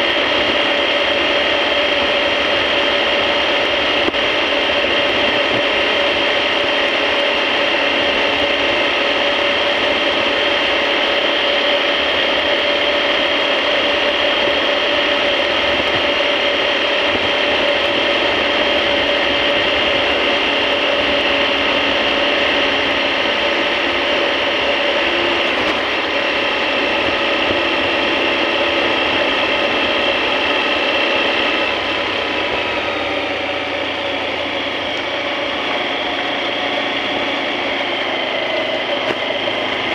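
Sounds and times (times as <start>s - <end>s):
motorcycle engine whining: 0.0s - 39.9s.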